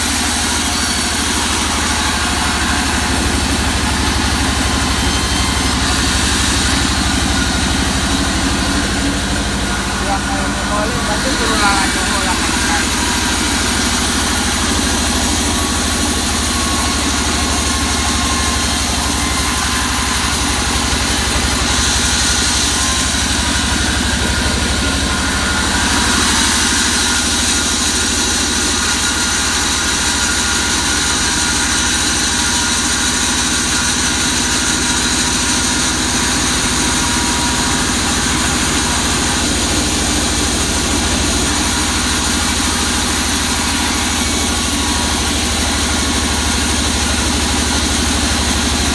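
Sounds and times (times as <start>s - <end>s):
band saw cutting wood: 0.0s - 48.9s.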